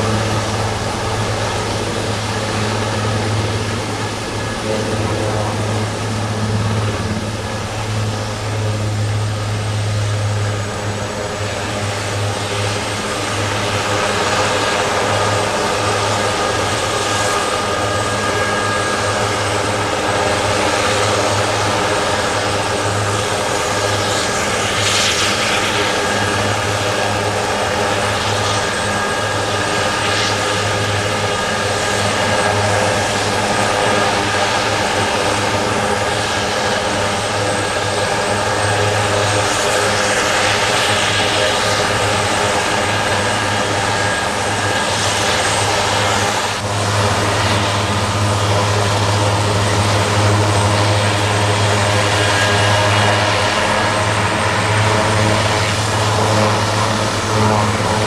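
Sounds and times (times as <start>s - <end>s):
helicopter rotor beat: 0.0s - 58.0s
helicopter turbine whine: 0.0s - 58.0s.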